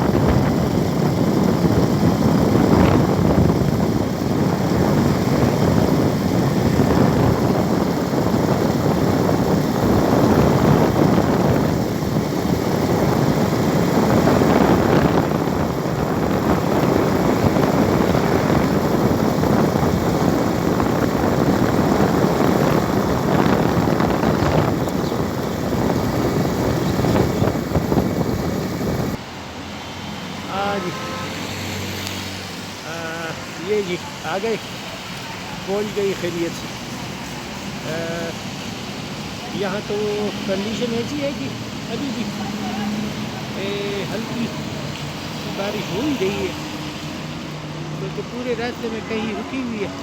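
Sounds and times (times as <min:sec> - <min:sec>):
moving vehicle wind and road noise: 0:00.0 - 0:50.0.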